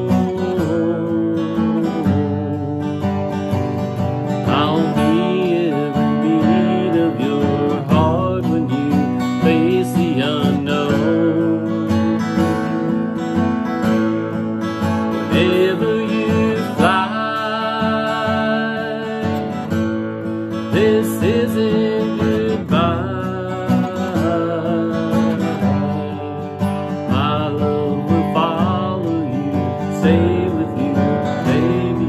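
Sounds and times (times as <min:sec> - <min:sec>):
man singing: 0:00.0 - 0:13.4, 0:14.9 - 0:32.0
acoustic guitar strumming: 0:00.0 - 0:32.0.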